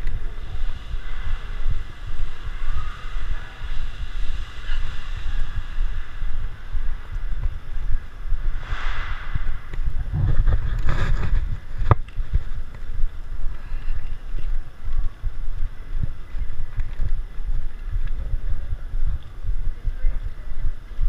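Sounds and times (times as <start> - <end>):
microphone rumble and buffeting: 0.0 - 21.0.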